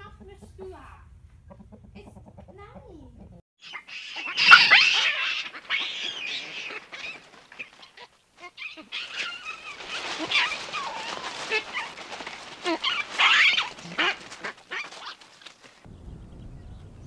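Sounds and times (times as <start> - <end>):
birds chirping and calling: 0.0 - 15.8.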